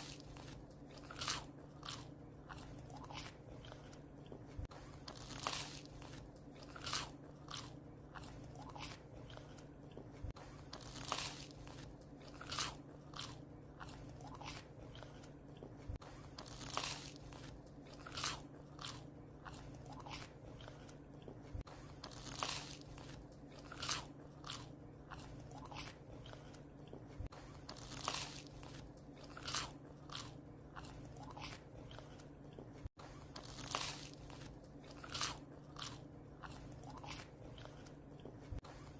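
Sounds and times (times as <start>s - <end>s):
dog chewing bread: 0.0s - 38.9s.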